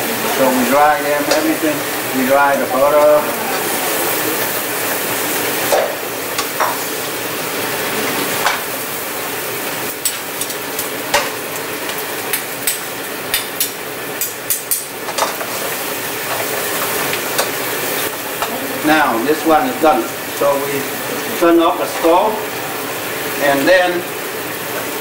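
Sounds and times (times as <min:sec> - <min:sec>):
crab legs sizzling in a frying pan: 0:00.0 - 0:25.0.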